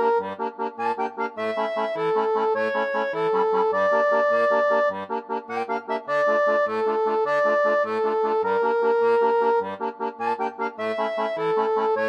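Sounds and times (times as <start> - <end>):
accordion music: 0.0 - 12.0.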